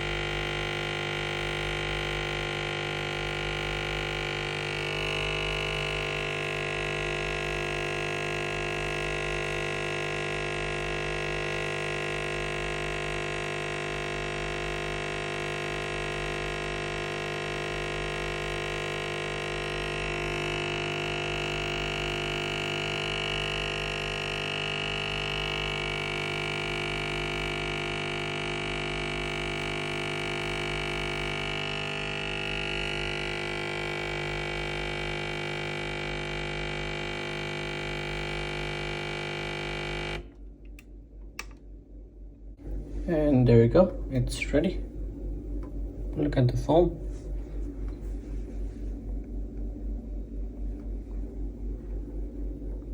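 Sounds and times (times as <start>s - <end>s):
coffee machine humming: 0.0s - 52.9s.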